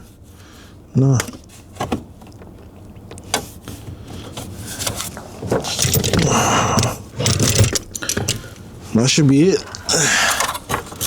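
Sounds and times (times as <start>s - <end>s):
scraping of car parts: 1.2s - 11.0s.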